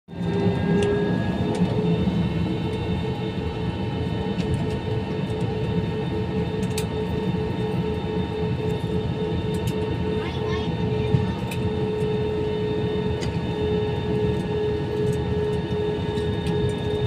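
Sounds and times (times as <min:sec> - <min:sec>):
jet engines humming: 0:00.1 - 0:17.0.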